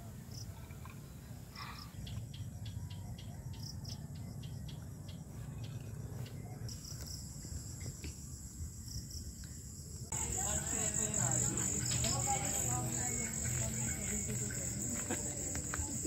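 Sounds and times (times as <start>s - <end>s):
crickets and insects calling: 1.2s - 16.0s.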